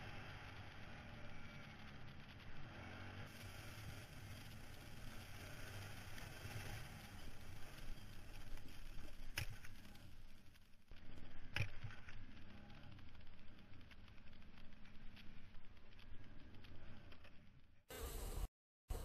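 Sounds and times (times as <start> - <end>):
quad bike engine running: 0.0 - 19.0
tyres riding over dirt and rocks: 0.1 - 17.8.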